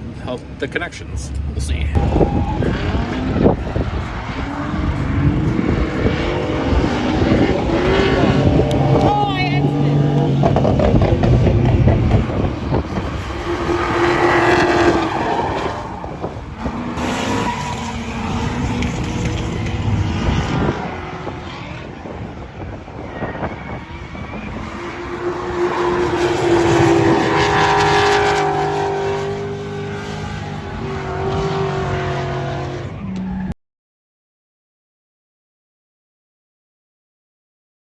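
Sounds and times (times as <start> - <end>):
car engine revving: 0.0 - 33.4.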